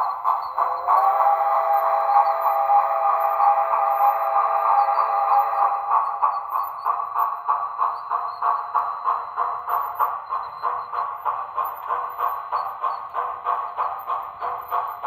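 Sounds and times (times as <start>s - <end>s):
model steam locomotive chuffs: 0.0s - 15.0s.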